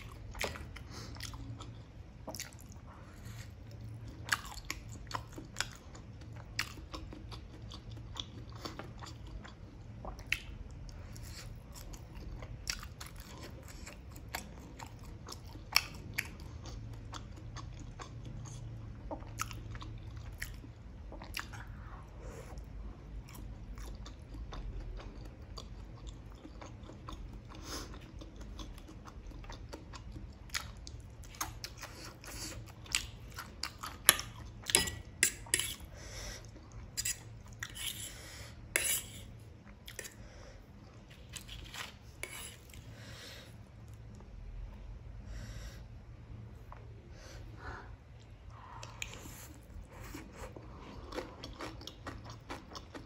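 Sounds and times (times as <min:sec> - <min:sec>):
crunchy chewing of fried food: 0:00.0 - 0:44.2, 0:47.6 - 0:53.0.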